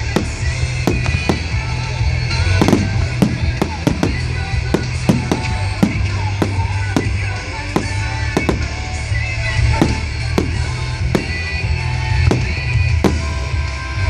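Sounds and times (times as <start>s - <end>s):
fireworks bangs: 0.0s - 14.0s
loud music with heavy bass: 0.0s - 14.0s.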